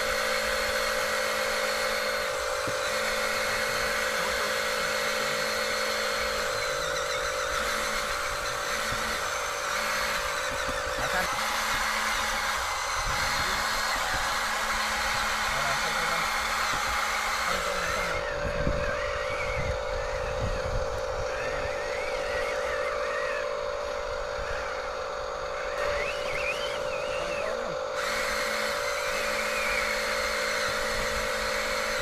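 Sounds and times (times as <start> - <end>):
higher wavering whine: 0.0 - 32.0
toy electric motors whirring: 0.0 - 32.0.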